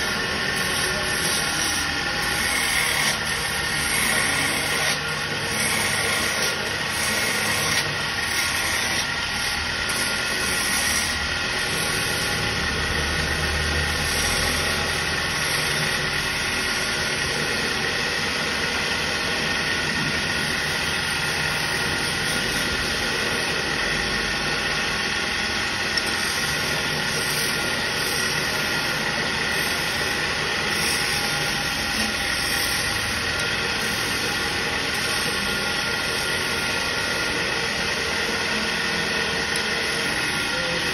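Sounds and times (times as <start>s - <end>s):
chisel shaving spinning wood: 0.0s - 40.9s
faint motor hum: 0.0s - 40.9s.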